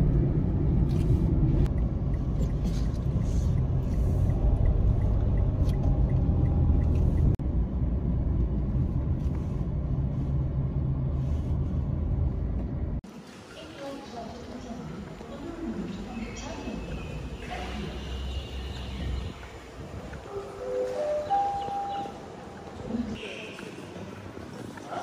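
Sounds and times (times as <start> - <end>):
road and engine noise in car: 0.0 - 25.0.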